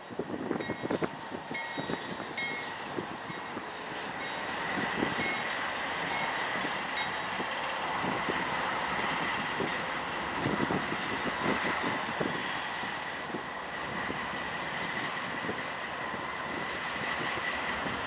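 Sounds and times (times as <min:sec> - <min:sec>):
locomotive engine and rolling noise: 0:00.0 - 0:18.0
railcar clanks and clicks: 0:00.0 - 0:18.0.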